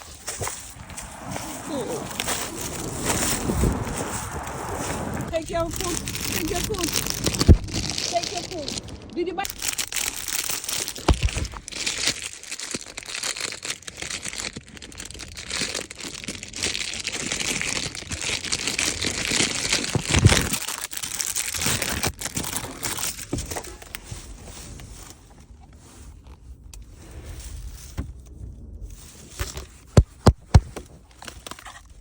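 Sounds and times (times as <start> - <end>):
food packaging crinkling: 0.0 - 26.4, 29.3 - 32.0.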